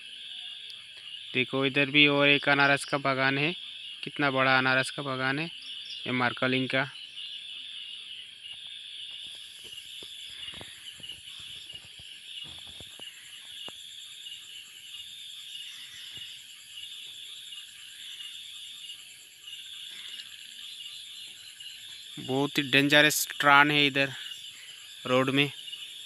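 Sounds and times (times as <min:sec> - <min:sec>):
high insect hiss: 0:00.0 - 0:26.0.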